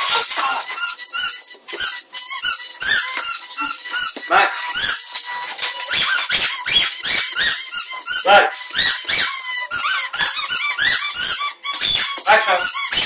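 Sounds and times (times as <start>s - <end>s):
squeaky toy squeaks: 0.0s - 13.0s.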